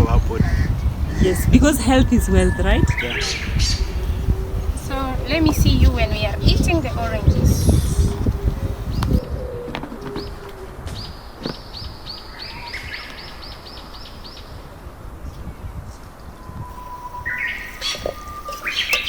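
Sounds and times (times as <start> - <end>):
bird calls: 0.0 - 19.0.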